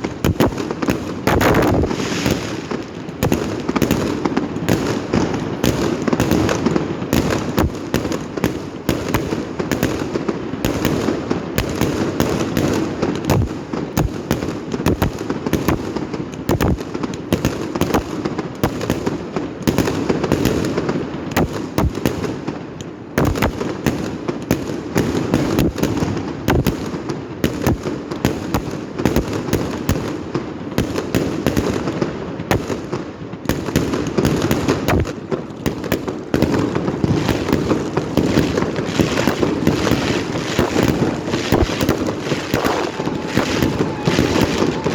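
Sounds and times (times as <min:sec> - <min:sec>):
fireworks crackling and banging: 0:00.0 - 0:44.9.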